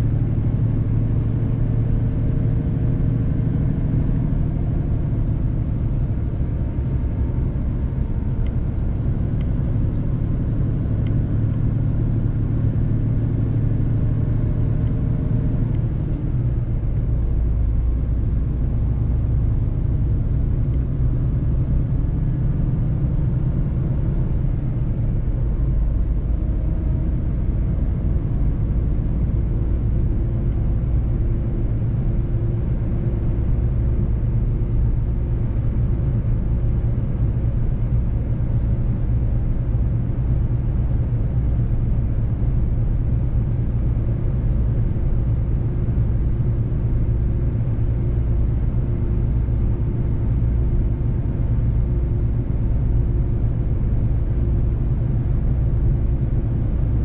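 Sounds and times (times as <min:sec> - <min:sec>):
road rumble: 0:00.0 - 0:57.0.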